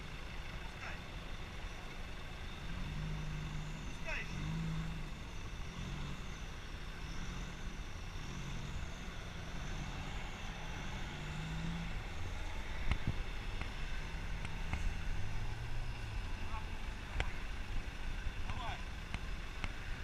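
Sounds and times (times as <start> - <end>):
faint high whine: 0.0 - 20.0
vehicle engine running: 0.0 - 20.0.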